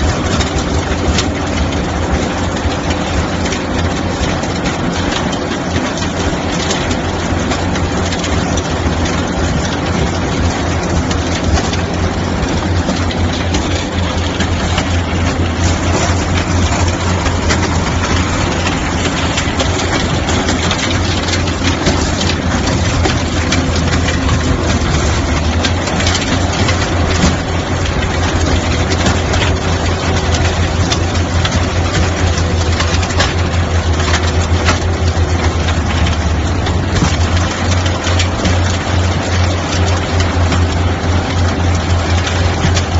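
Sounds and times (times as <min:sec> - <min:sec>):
loader engine running: 0:00.0 - 0:42.9.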